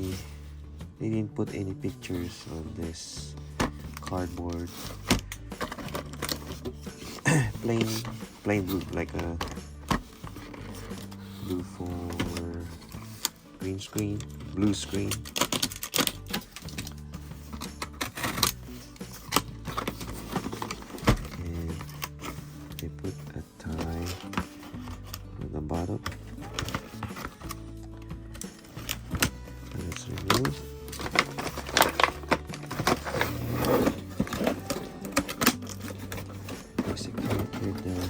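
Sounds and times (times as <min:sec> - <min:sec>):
background music: 0:00.0 - 0:38.0
toy packaging clicking and rustling: 0:03.6 - 0:23.0, 0:26.0 - 0:38.0.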